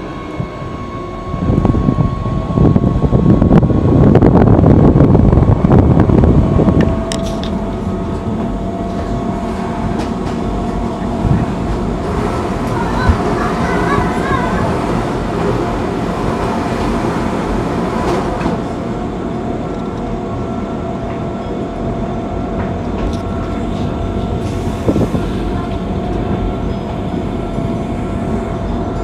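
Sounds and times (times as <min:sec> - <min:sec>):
train rumbling on track: 0:00.0 - 0:29.0.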